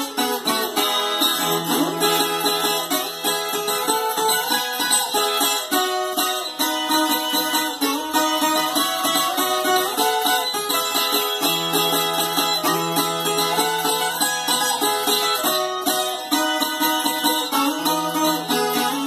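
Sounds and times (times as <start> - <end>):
plucked viola melody: 0.0 - 19.0.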